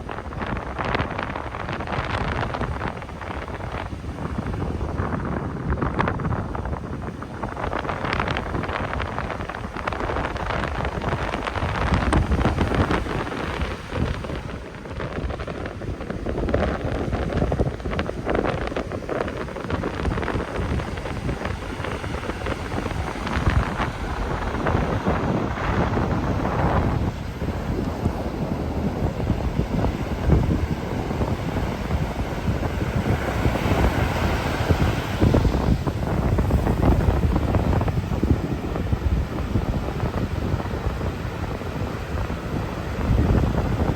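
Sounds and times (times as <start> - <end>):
gusty wind buffeting microphone: 0.0 - 43.9
heavy surf: 0.0 - 43.9
large waves breaking on shore: 0.0 - 43.9.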